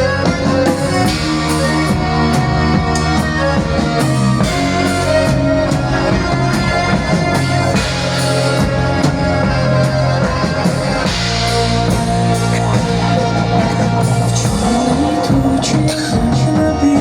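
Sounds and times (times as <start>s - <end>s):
live folk-rock band playing: 0.0s - 17.0s.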